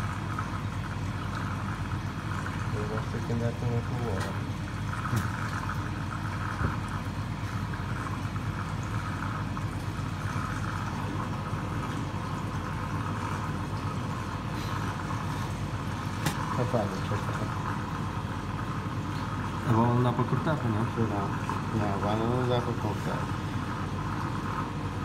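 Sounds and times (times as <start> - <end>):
aquarium equipment humming: 0.0 - 25.0.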